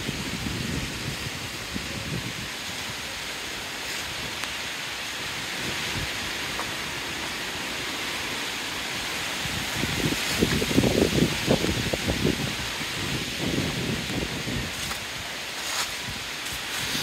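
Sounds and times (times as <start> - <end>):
low wind buffeting: 0.0 - 17.0
storm wind in trees: 0.0 - 17.0.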